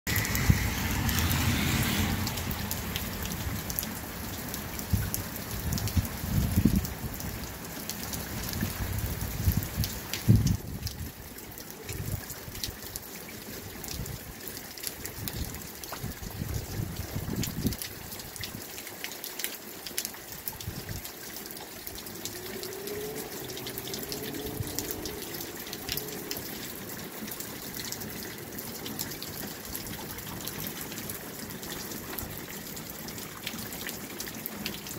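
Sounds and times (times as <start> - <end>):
rain drops ticking: 0.1 - 34.9
water trickling: 0.1 - 34.9.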